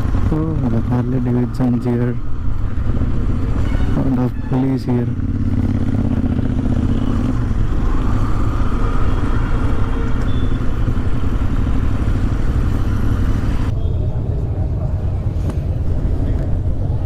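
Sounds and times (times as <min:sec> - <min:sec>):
motorcycle engines rumbling: 0:00.0 - 0:17.0.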